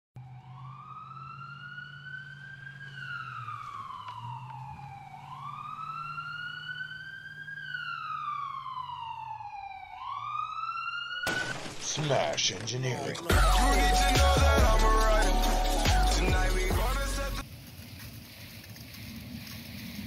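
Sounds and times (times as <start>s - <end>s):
siren wailing: 0.2s - 17.4s.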